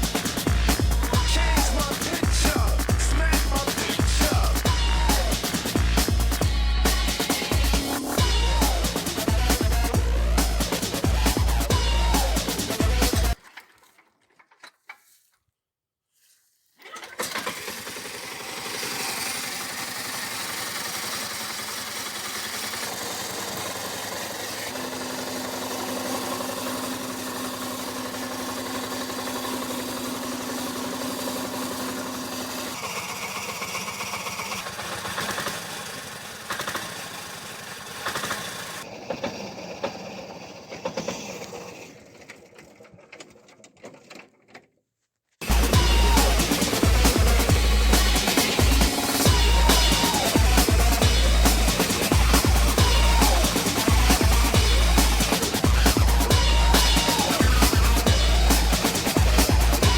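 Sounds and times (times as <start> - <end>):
small engine running: 0.0 - 13.4, 16.8 - 43.0, 45.4 - 59.9.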